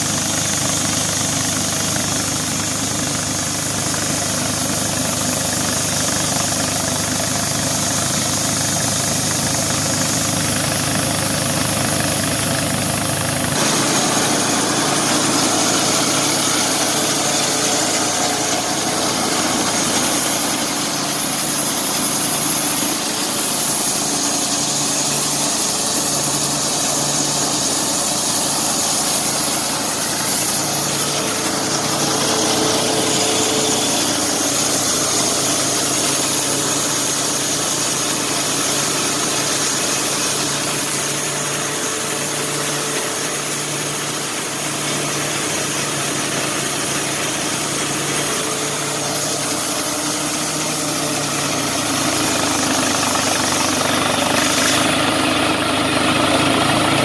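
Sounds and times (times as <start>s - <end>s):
gas engine running: 0.0s - 57.0s.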